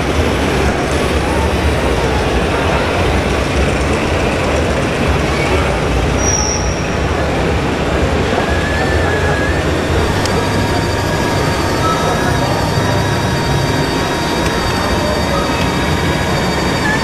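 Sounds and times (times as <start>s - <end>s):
crowd rumbling din: 0.0s - 17.0s.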